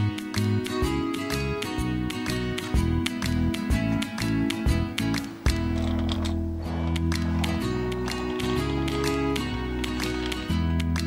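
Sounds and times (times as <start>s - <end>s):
instrumental music with plucked notes: 0.0s - 11.0s.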